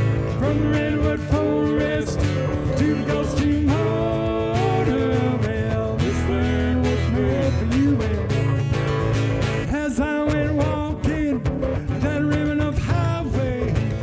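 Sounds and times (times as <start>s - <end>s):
live country music with guitar: 0.0s - 14.0s.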